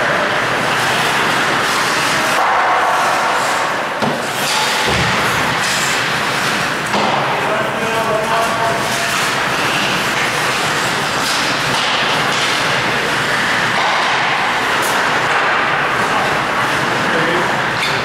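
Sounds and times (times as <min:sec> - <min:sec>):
ice rink crowd din: 0:00.0 - 0:18.0.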